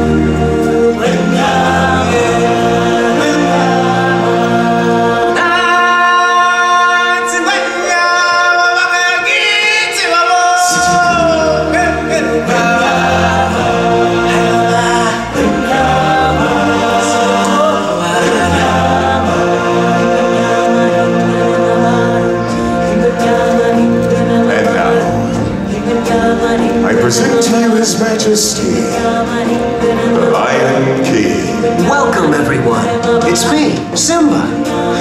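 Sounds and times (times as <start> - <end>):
choir singing with accompaniment: 0.0 - 35.0.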